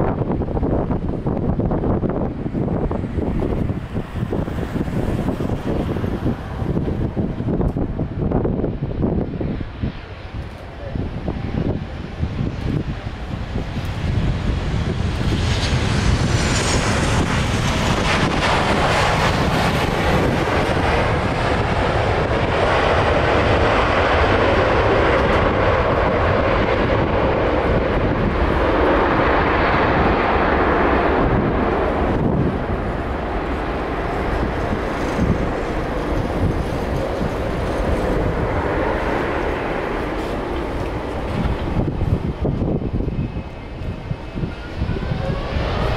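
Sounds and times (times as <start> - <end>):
jet engines taxiing: 0.0 - 45.9.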